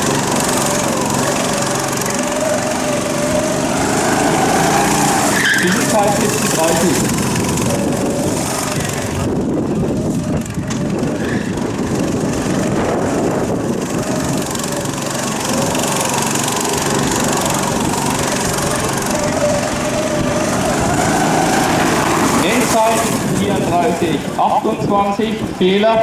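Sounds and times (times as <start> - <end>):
go-kart engine running: 0.0 - 26.0.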